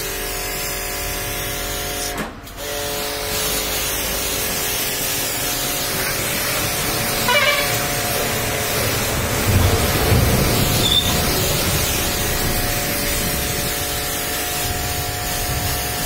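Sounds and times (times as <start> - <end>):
pressure washer jet spraying water: 0.2 - 16.0
washer pump humming: 2.6 - 16.0.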